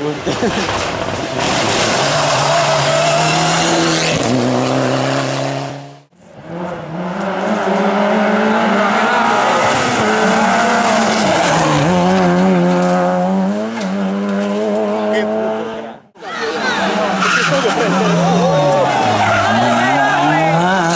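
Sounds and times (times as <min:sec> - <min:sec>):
rally car engine revving: 0:00.0 - 0:20.9.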